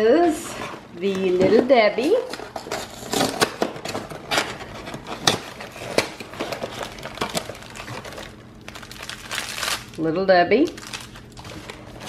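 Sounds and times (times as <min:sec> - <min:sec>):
plastic wrap crinkling: 0:01.0 - 0:12.0.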